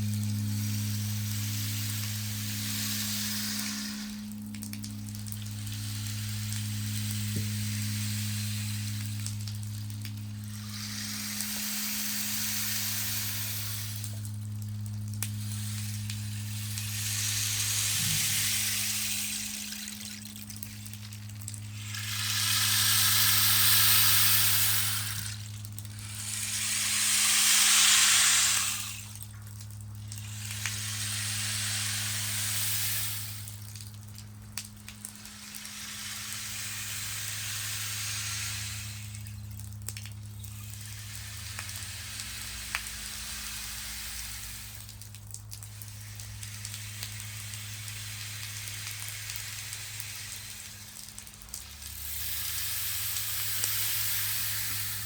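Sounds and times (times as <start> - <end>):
soft hissing swells: 0.0 - 45.0, 45.6 - 55.0
steady low drone: 0.0 - 55.0.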